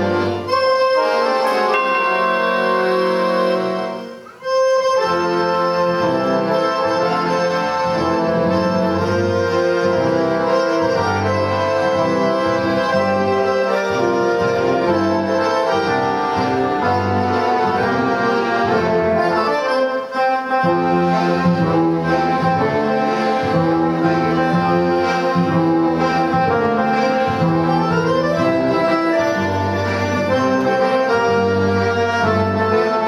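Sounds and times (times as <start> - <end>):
accordion orchestra playing: 0.0 - 33.0.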